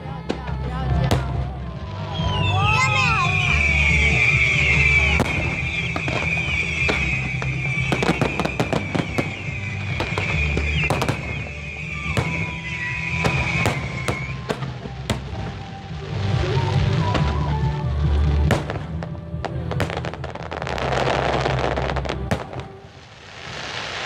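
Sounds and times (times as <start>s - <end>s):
background music: 0.0s - 24.0s
fireworks bangs and crackles: 0.0s - 24.0s.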